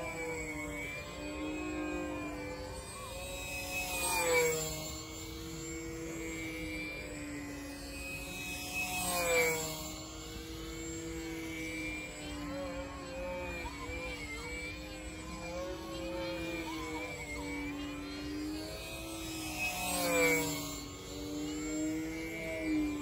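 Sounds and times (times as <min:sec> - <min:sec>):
model airplane motor passing: 0:00.0 - 0:23.0.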